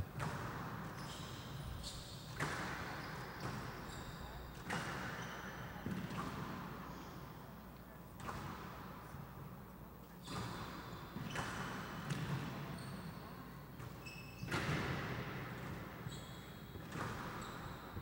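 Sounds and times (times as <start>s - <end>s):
squash ball hitting rackets and walls: 0.0s - 6.9s, 8.1s - 9.6s, 10.2s - 12.7s, 13.7s - 18.0s
shoes squeaking on court floor: 0.0s - 7.3s, 10.2s - 18.0s.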